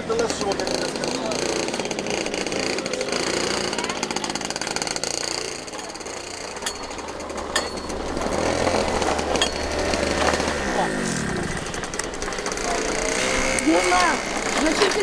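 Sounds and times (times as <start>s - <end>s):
kart engines running: 0.0s - 15.0s.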